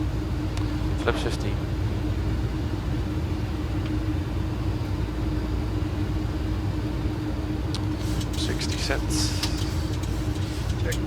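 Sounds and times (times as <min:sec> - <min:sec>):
airflow and engine noise in cockpit: 0:00.0 - 0:11.0
steady hum: 0:00.0 - 0:11.0.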